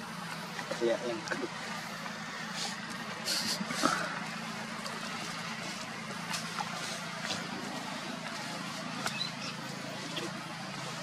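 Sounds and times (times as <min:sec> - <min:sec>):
low vehicle engine hum: 0:00.0 - 0:11.0
outdoor hiss: 0:00.0 - 0:11.0.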